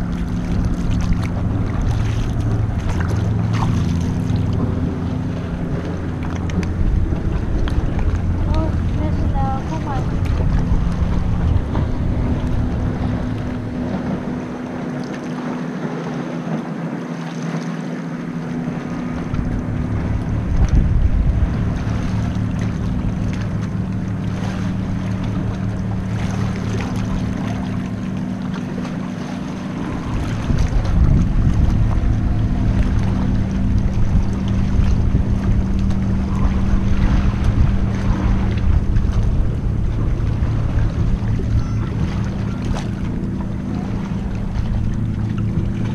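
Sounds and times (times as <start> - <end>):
steady low hum: 0.0 - 16.1, 18.0 - 45.9
water sloshing against hull: 0.0 - 45.9
wind buffeting microphone: 0.0 - 45.9.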